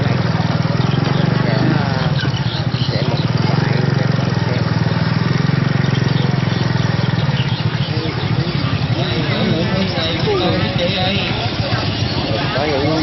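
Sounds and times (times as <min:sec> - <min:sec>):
faint crowd voices: 0:00.0 - 0:13.0
scooter engine running: 0:00.0 - 0:13.0.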